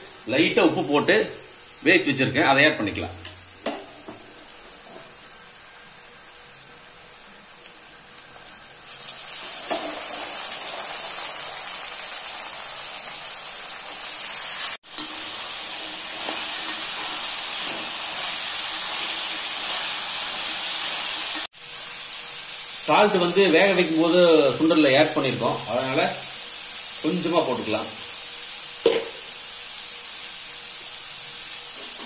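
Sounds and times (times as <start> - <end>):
oil sizzling in a pan: 0.0 - 32.0.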